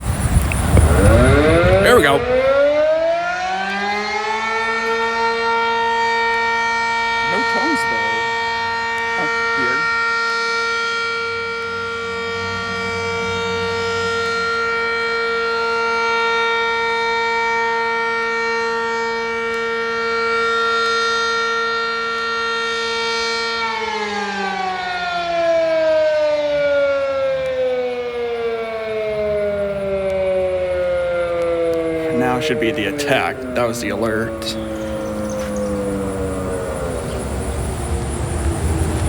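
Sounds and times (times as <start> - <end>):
outdoor warning siren: 0.0 - 39.0.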